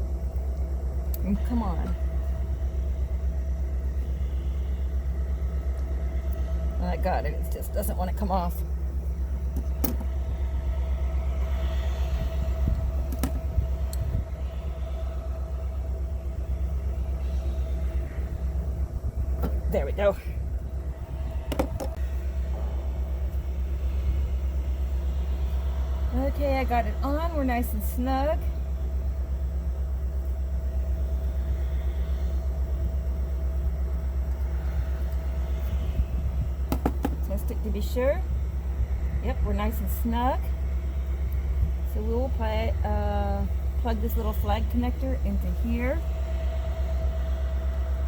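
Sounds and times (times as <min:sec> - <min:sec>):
low mechanical rumble: 0:00.0 - 0:48.0
thin steady hum: 0:00.0 - 0:48.0.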